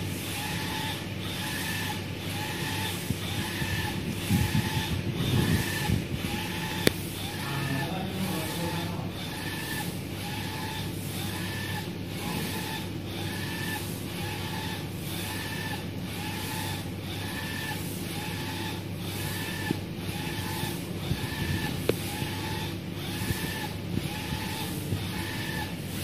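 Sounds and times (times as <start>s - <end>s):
printer carriage whining: 0.0s - 26.0s.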